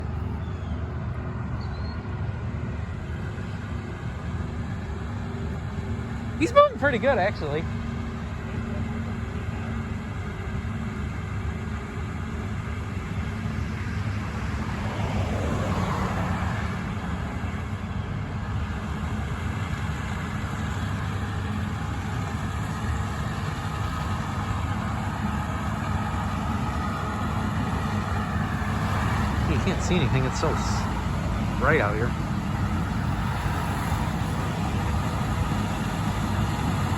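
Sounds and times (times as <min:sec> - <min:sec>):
farm machinery engine drone: 0:00.0 - 0:36.9.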